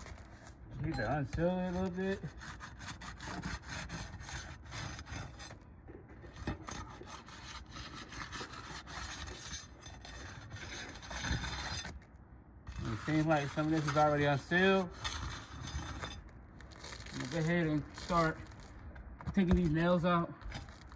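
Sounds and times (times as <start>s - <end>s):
tool scraping roof shingle: 0.0s - 20.9s.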